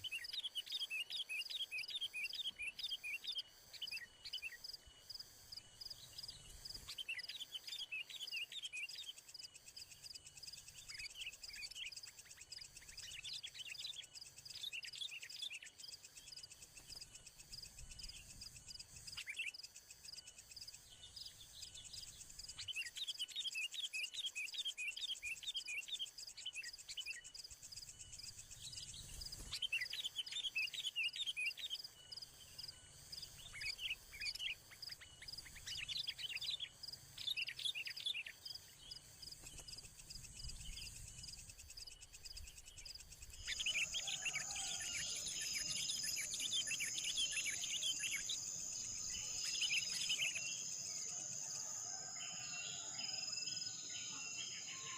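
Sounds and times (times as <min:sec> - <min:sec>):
small bird chirping: 0:00.0 - 0:54.9.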